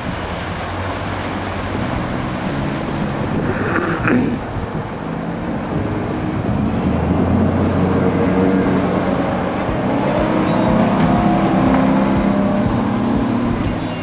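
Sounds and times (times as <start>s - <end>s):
outboard engine drone: 0.0s - 14.0s.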